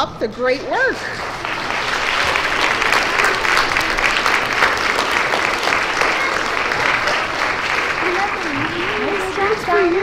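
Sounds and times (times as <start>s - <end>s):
children applauding: 1.1s - 10.0s.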